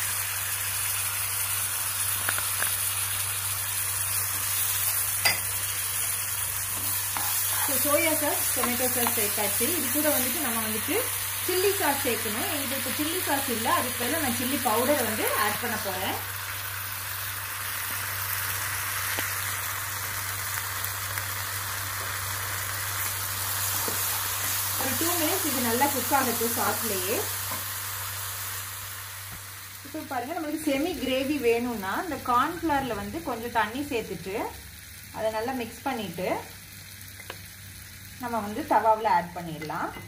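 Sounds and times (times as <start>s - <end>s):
vegetables sizzling in a frying pan: 0.0s - 40.0s.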